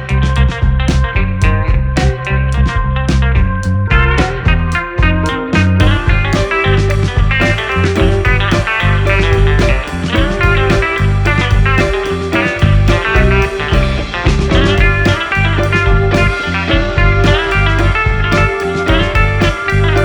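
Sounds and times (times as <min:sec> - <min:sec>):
electric guitar melody: 0:00.0 - 0:20.0
steady beat: 0:03.9 - 0:20.0.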